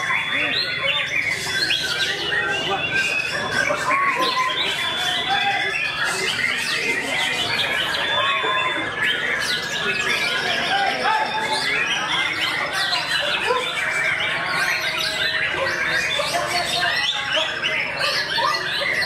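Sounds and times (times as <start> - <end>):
many songbirds singing: 0.0 - 19.0.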